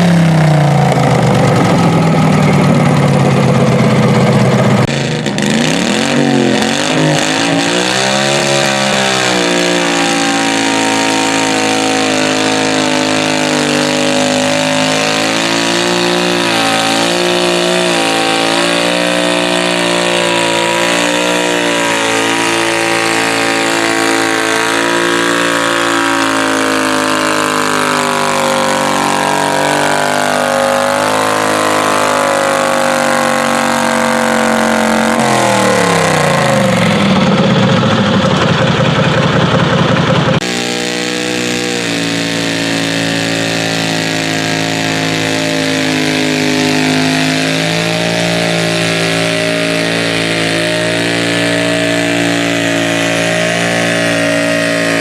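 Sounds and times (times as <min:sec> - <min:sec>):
tractor engine running at high revs: 0:00.0 - 0:55.0.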